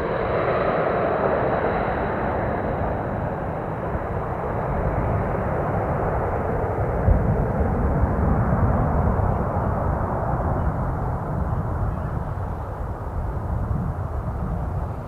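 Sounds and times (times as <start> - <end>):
airliner jet roar: 0.0 - 15.0
wind rumble on microphone: 0.0 - 15.0.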